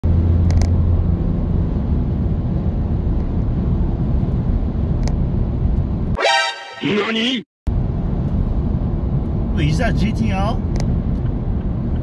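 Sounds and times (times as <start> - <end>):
car road and engine rumble: 0.0 - 6.2, 7.2 - 12.0.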